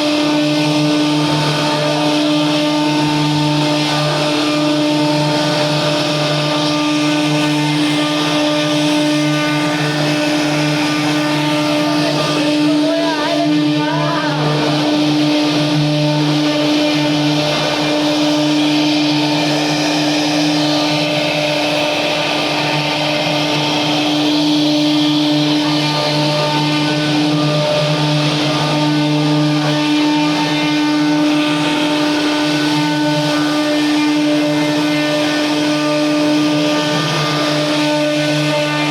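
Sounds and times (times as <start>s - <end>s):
router bit cutting: 0.0s - 38.9s
spindle motor hum: 0.0s - 38.9s.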